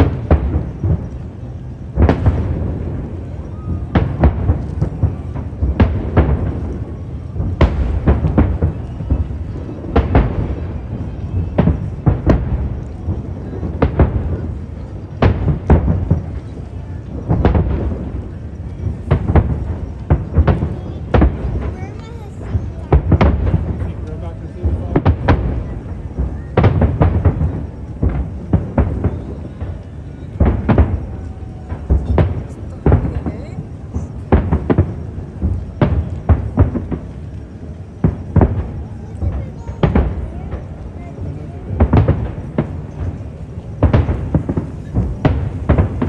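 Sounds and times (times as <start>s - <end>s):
firework bangs: 0.0s - 46.0s
low rumble of fireworks: 0.0s - 46.0s.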